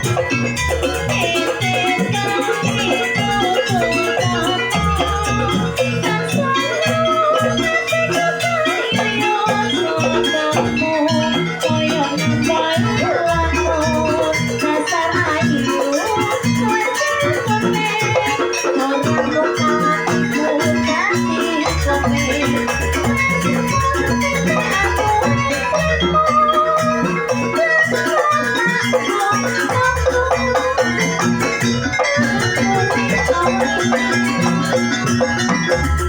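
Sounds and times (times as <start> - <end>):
gamelan and drum ensemble: 0.0 - 36.0.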